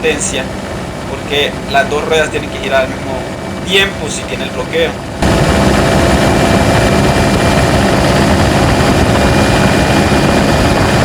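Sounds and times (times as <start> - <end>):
diesel engine droning under load: 0.0 - 11.0
road and wind noise: 0.0 - 11.0.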